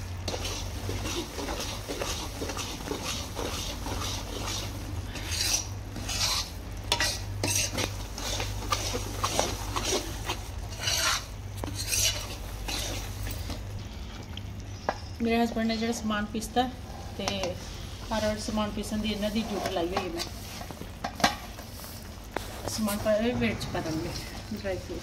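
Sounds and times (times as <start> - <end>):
light sizzling: 0.0 - 25.0
metal ladle scraping a pan: 0.2 - 13.6, 16.9 - 24.9.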